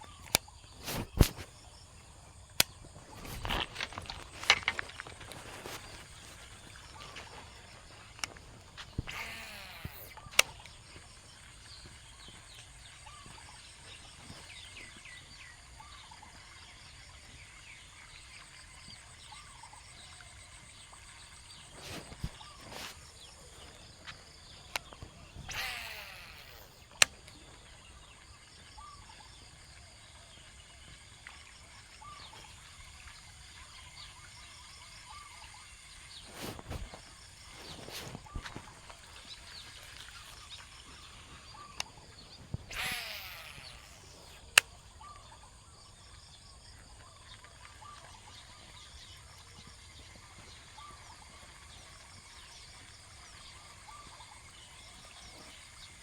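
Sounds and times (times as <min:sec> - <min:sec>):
birds calling: 0:00.0 - 0:56.0
insect hum: 0:00.0 - 0:56.0.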